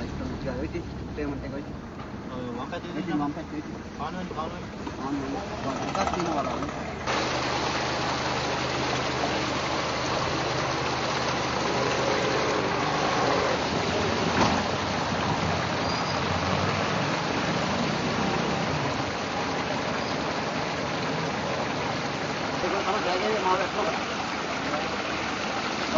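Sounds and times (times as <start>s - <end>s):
traffic in background: 0.0s - 25.9s
floodwater running: 2.4s - 25.9s.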